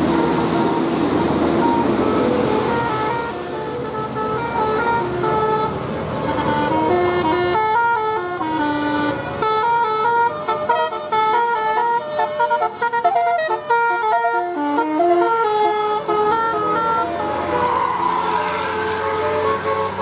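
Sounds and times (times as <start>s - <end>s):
multi-tone bus horn melody: 0.0s - 20.0s.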